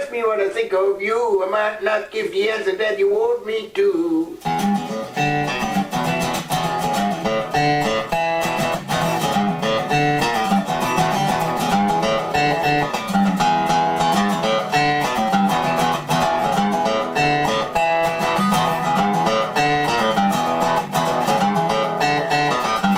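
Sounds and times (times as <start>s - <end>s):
guitar song: 0.0s - 22.9s.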